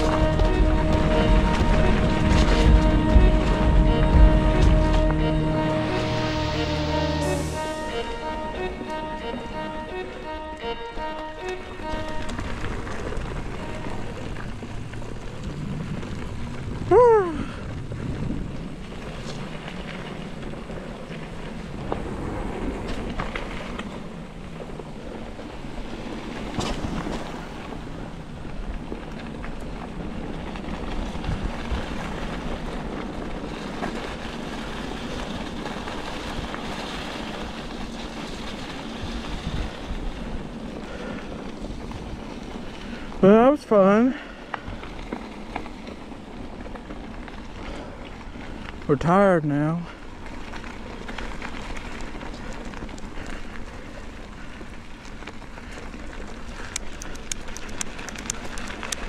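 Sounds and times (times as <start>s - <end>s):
bike tyre and wind noise: 0.0s - 59.0s.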